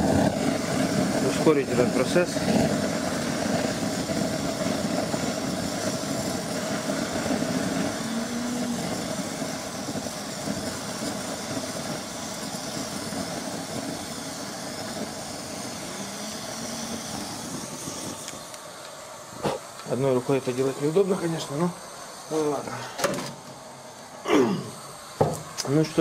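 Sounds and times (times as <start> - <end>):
gas torch flame rushing: 0.0 - 26.0.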